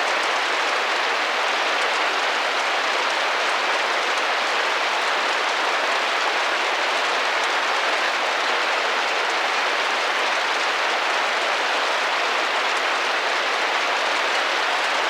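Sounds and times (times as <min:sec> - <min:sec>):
rain tapping on a window: 0:00.0 - 0:15.0.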